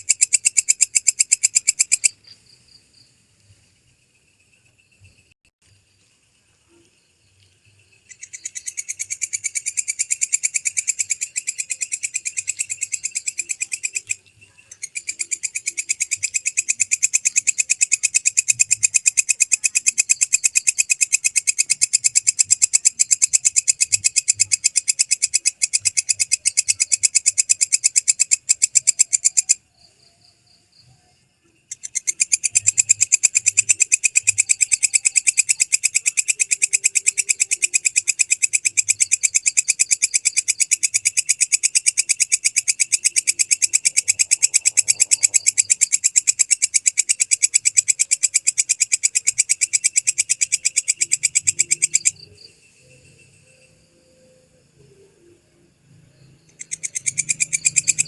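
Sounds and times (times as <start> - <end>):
katydid trilling: 0.0 - 2.2, 8.0 - 29.8, 31.7 - 54.6, 56.3 - 58.0.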